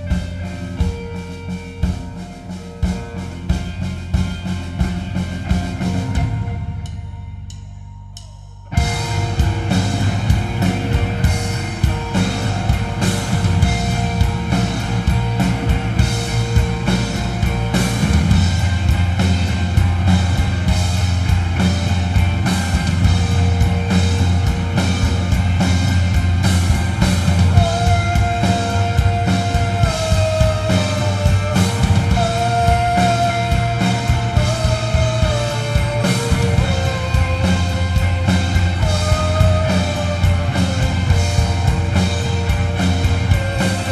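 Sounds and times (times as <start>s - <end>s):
live psychedelic rock band: 0.0s - 43.9s.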